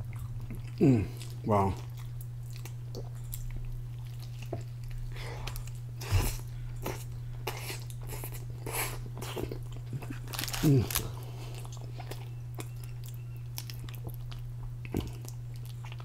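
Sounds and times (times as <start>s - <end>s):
man chewing with mouth smacks: 0.0s - 16.0s
steady low hum: 0.0s - 16.0s.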